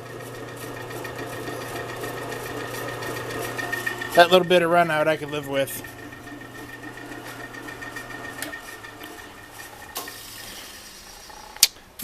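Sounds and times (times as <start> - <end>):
drill press motor hum and whine: 0.0 - 11.6.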